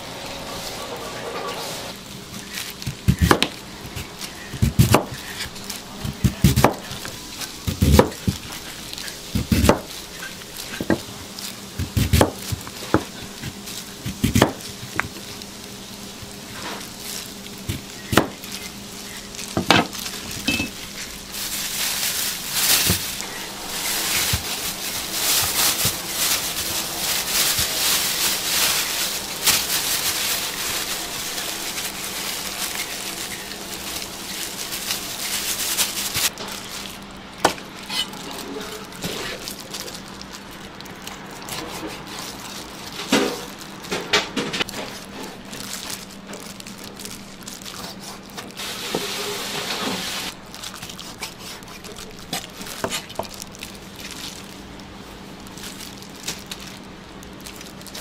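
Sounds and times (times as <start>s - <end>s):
crackling sizzle: 0.0s - 58.0s.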